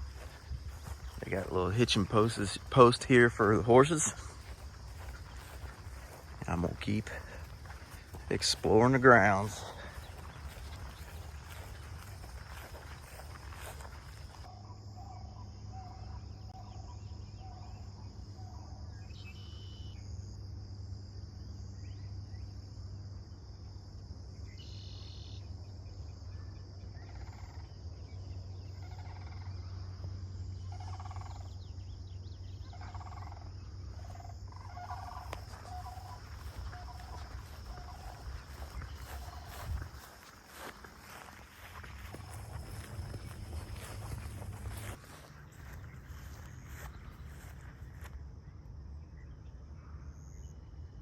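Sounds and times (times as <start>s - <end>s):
high insect drone: 0.0s - 15.6s, 17.7s - 51.0s.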